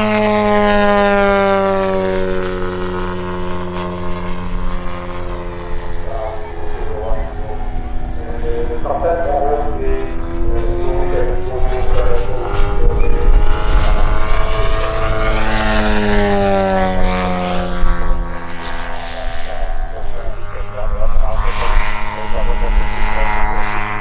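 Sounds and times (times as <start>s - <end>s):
model plane propeller engine passing: 0.0s - 24.0s
second engine tone: 0.0s - 24.0s.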